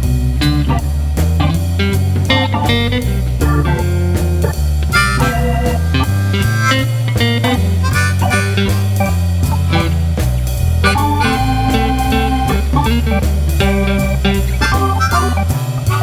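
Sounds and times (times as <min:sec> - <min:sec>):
blues music with harmonica: 0:00.0 - 0:16.0.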